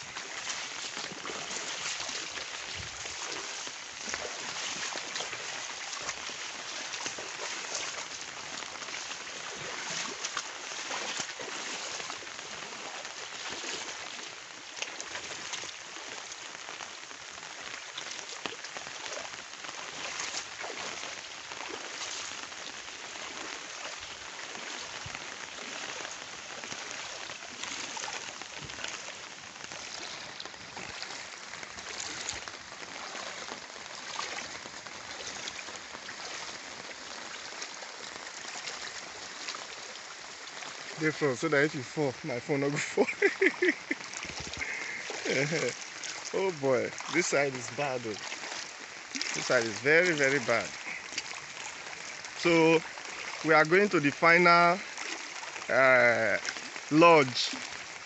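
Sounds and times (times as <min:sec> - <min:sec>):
water sloshing as person wades: 0:00.0 - 0:58.0.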